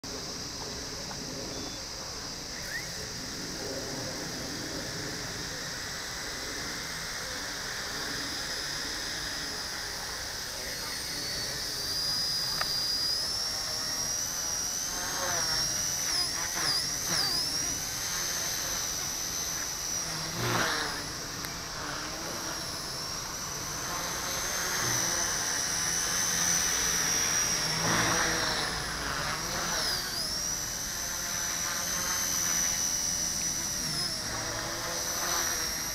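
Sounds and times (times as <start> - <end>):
rc helicopter motor whining: 0.0 - 35.9.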